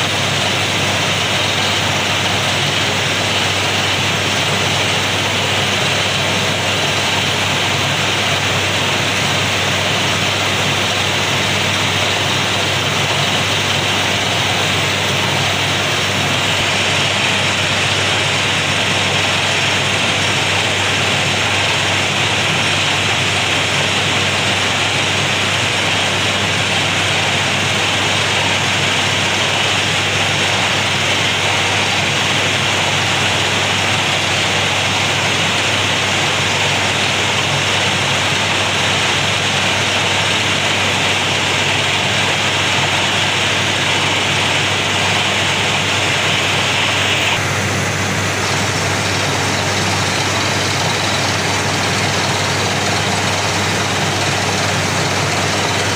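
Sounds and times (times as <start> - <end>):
drilling rig engine hum: 0.0 - 55.9
loud hiss: 0.0 - 55.9.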